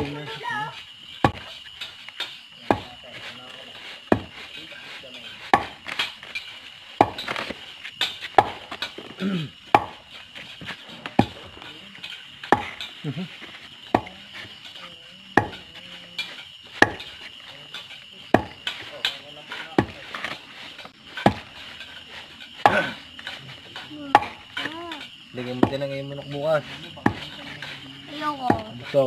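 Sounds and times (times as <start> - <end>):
grain rustling: 0.0 - 29.0.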